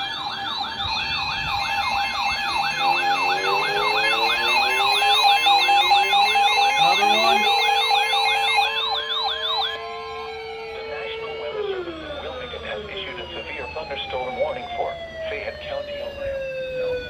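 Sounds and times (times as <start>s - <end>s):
lower siren rising in pitch: 0.0s - 17.0s
siren fast falling yelp: 0.0s - 17.0s
steady siren tone: 0.0s - 17.0s.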